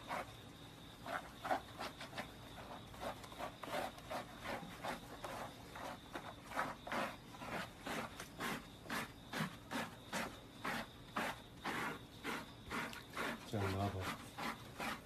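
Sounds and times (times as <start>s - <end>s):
scrub brush on wet fur: 0.0s - 15.0s.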